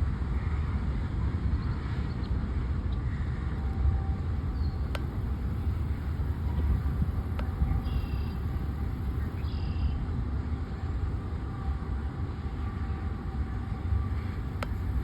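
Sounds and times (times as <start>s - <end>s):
freight train rumbling: 0.0s - 15.0s.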